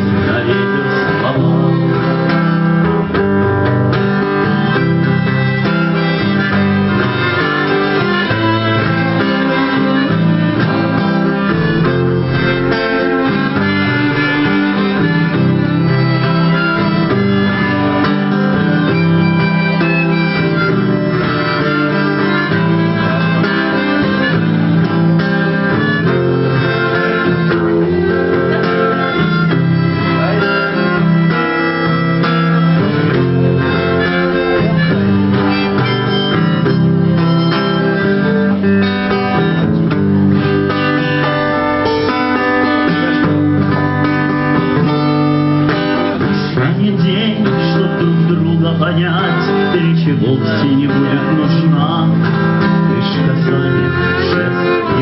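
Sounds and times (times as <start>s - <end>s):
acoustic guitar accompaniment: 0.0s - 55.0s
sustained lead melody: 0.0s - 55.0s.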